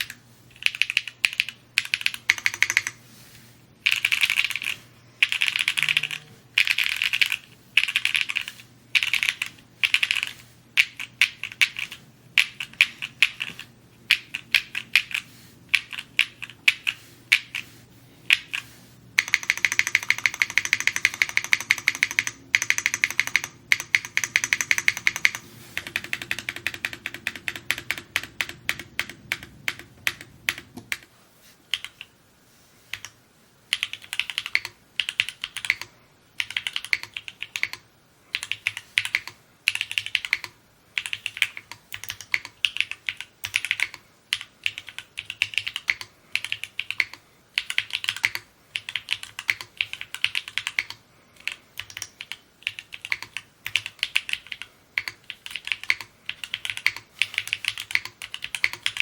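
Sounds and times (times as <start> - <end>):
mechanical keyboard typing: 0.0 - 3.0, 3.8 - 17.7, 18.3 - 31.1, 31.7 - 32.1, 32.9 - 59.0.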